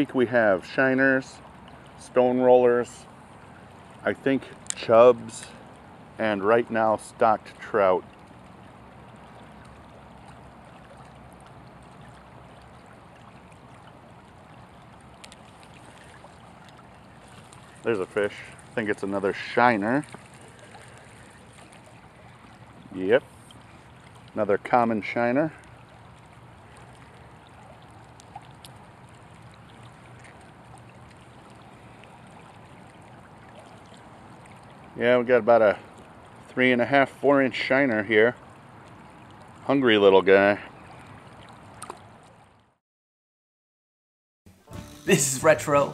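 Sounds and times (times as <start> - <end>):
creek water flowing: 0.0 - 42.8, 44.5 - 45.9.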